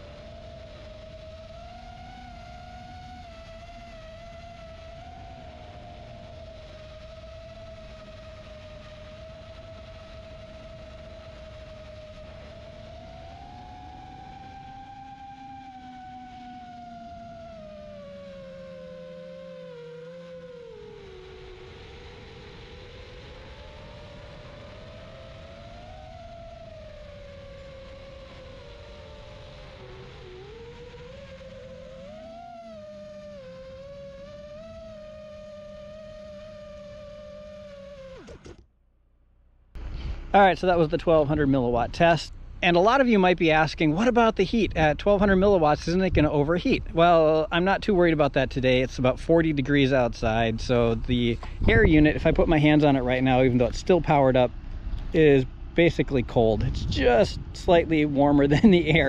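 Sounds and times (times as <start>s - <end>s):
low rushing noise: 0.0s - 38.6s, 39.8s - 59.0s
quadcopter motors whining: 0.0s - 38.6s, 39.8s - 59.0s.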